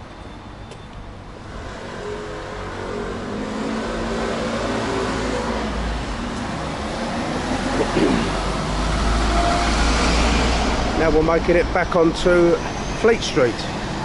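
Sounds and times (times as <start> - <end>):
car engine approaching: 1.3 - 14.0.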